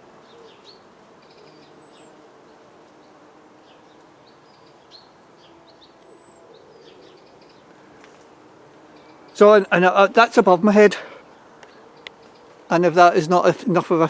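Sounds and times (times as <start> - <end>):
bees humming: 0.0 - 14.0
small birds chirping: 0.0 - 14.0.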